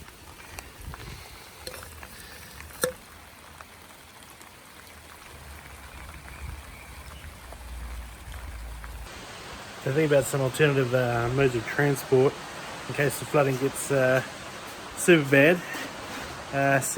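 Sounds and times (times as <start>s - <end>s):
light rain dripping: 0.0s - 16.9s.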